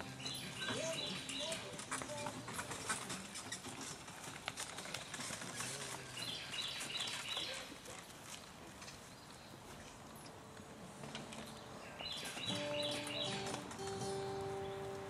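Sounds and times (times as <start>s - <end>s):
harness and carriage clicks: 0.0s - 15.0s
horse hooves on grass: 0.0s - 15.0s.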